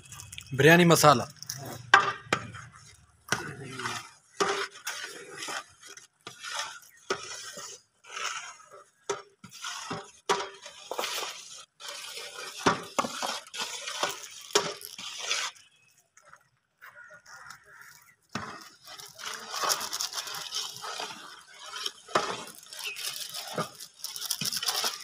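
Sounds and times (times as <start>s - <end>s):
metal spatula scraping a pot: 1.4s - 16.0s, 17.0s - 25.0s.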